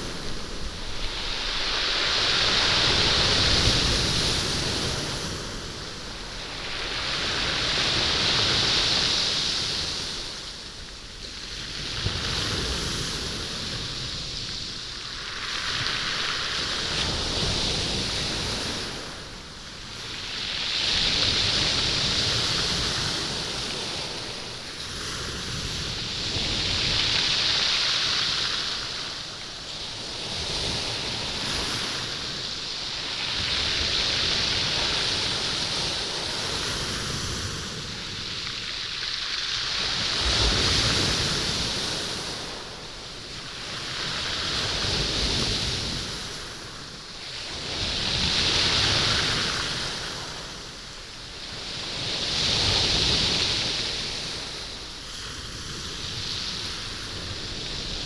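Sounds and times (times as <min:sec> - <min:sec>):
waves on stony beach: 0:00.0 - 0:58.0.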